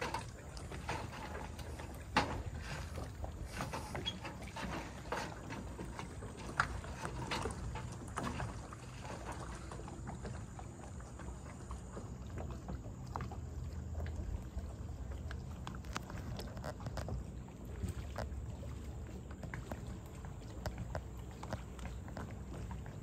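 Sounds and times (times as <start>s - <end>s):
waves lapping against shore: 0.0s - 23.0s.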